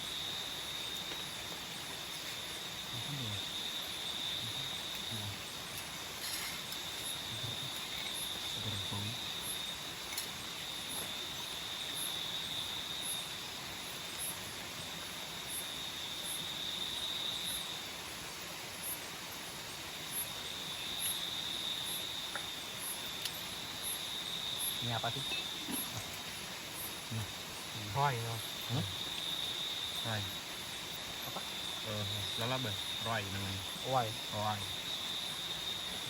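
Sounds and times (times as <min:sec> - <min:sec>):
insect high chirps: 0:00.0 - 0:17.9, 0:20.0 - 0:36.0
rushing water hiss: 0:00.0 - 0:36.0.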